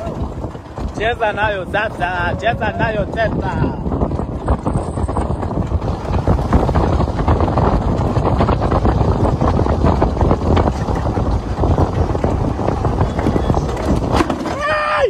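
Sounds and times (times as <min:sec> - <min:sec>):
handcart rolling on asphalt: 0:00.0 - 0:15.0
wind buffeting microphone: 0:00.0 - 0:15.0.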